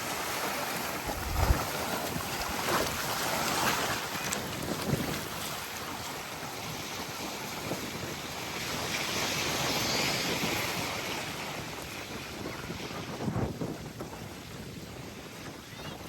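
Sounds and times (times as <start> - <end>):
small waves lapping on beach: 0.0 - 16.0
wind buffeting microphone: 0.0 - 16.0.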